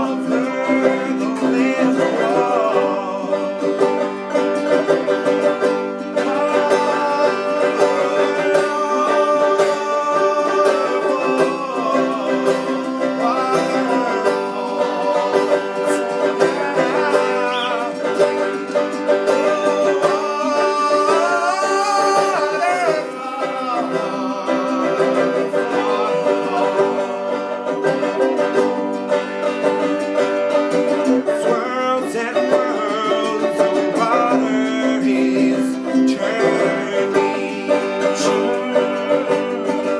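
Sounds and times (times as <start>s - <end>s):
finger-picked string instrument: 0.0s - 39.9s
man singing: 0.0s - 39.9s.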